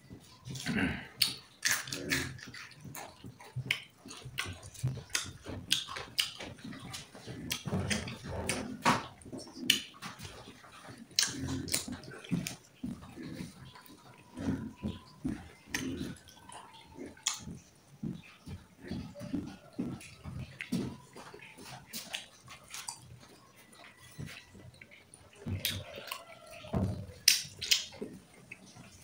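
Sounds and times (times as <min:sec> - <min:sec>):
person chewing: 0:00.0 - 0:29.0.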